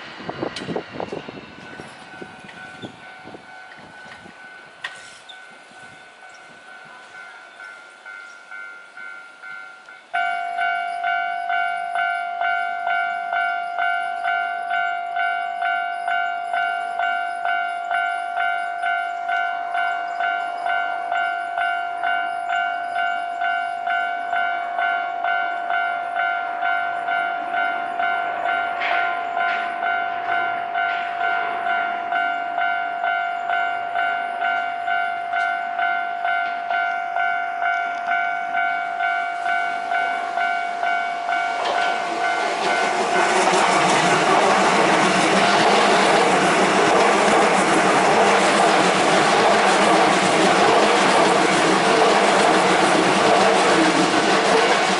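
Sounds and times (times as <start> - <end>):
train wheels on rails: 0.0 - 54.9
level crossing warning bell: 1.6 - 54.9.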